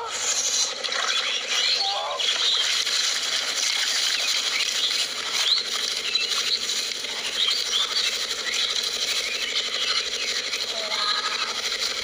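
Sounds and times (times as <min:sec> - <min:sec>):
fish flapping on grass: 0:00.2 - 0:12.0.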